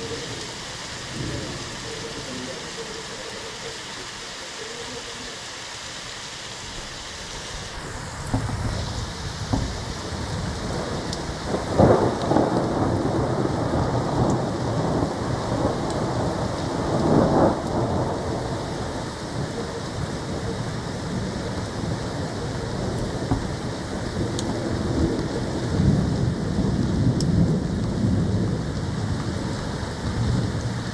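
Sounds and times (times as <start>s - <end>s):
thunder rumbling: 0.0s - 4.0s, 7.7s - 30.9s
steady rain: 0.0s - 30.9s.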